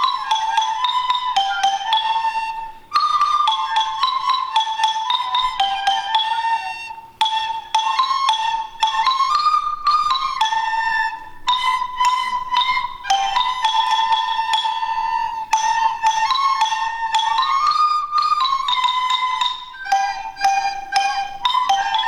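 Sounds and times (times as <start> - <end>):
high instrumental melody: 0.0 - 22.0.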